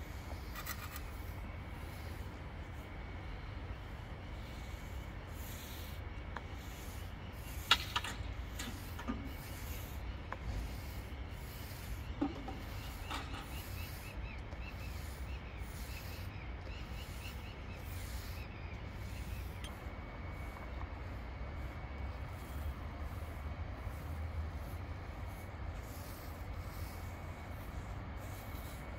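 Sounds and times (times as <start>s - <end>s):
paint roller swishing on concrete: 0.0s - 28.9s.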